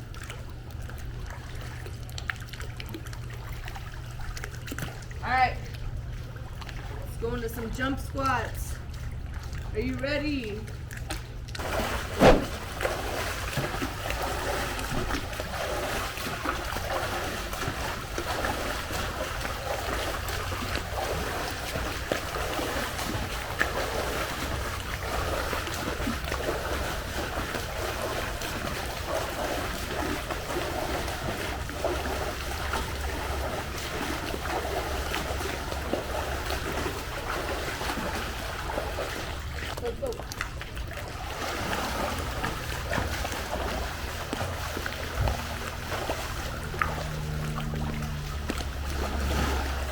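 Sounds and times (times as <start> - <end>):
pool water sloshing and splashing: 0.0 - 49.9.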